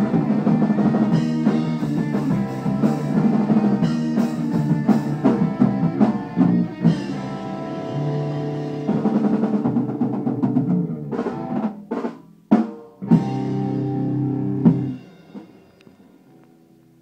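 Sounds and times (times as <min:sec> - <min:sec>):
drum rolls: 0:00.0 - 0:16.4
punk rock band playing: 0:00.0 - 0:16.4.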